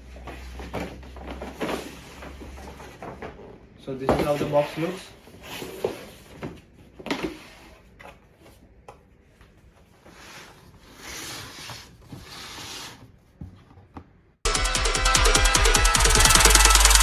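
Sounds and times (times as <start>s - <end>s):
cardboard rustling: 0.0s - 13.9s.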